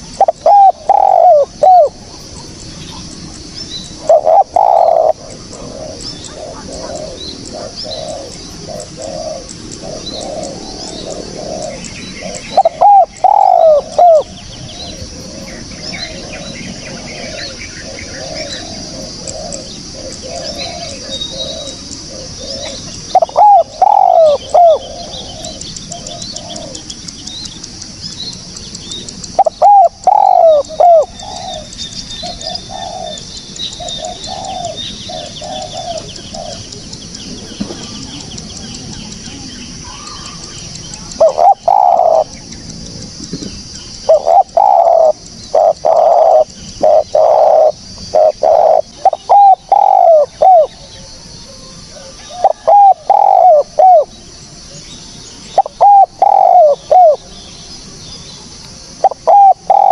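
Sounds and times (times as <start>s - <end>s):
doves cooing: 0.0s - 27.8s, 28.6s - 54.2s, 55.6s - 57.3s, 58.9s - 59.9s
small birds chirping: 0.0s - 59.9s.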